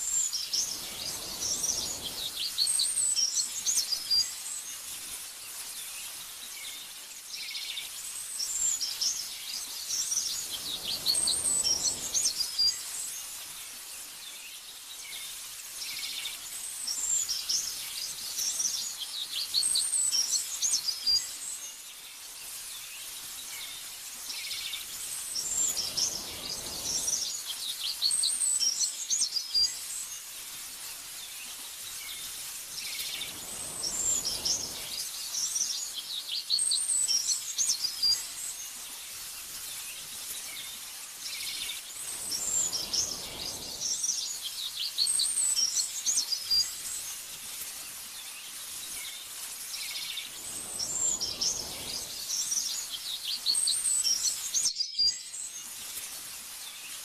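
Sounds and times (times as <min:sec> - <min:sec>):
small birds chirping and trilling: 0:00.0 - 0:57.0
soft steady hiss: 0:00.0 - 0:57.0.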